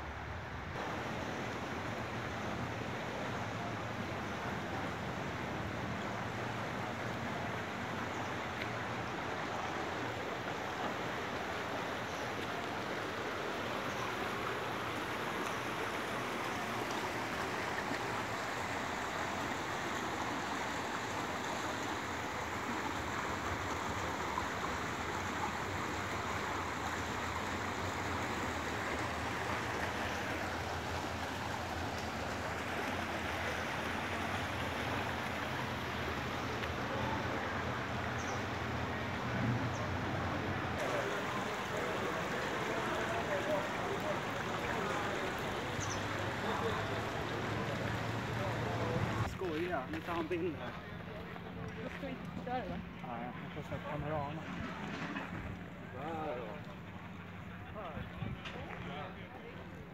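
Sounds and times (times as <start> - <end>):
river rushing over rocks: 0.2 - 49.7.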